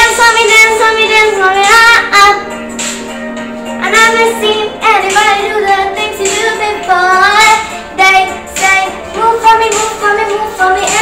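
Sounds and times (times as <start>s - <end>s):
girl singing pop song: 0.0s - 11.0s.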